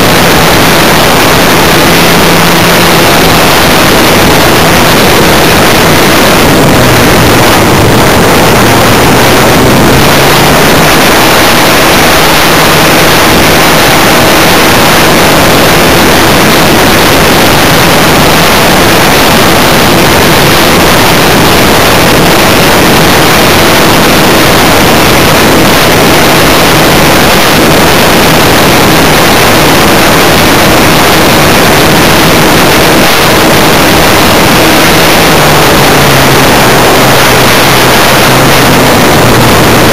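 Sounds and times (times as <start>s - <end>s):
model airplane engine: 0.0s - 39.9s
wind rushing: 0.0s - 39.9s.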